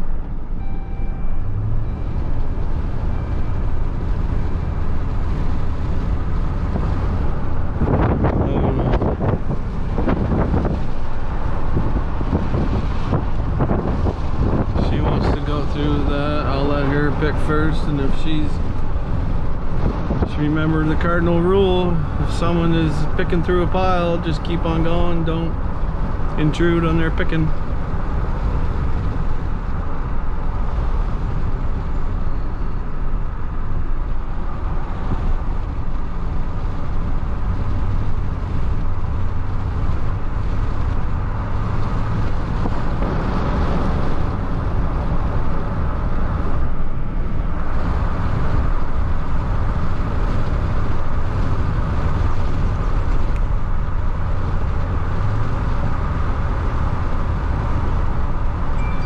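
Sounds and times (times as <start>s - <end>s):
road noise: 0.0s - 59.0s
vehicle engine hum: 0.0s - 59.0s.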